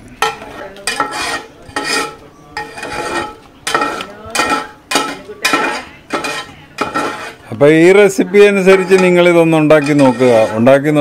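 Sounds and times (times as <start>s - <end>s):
metal ladle scraping metal pot: 0.0s - 11.0s.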